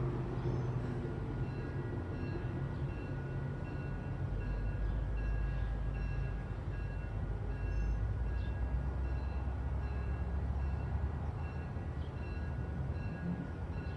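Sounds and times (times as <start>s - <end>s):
train rumbling past: 0.0s - 13.9s.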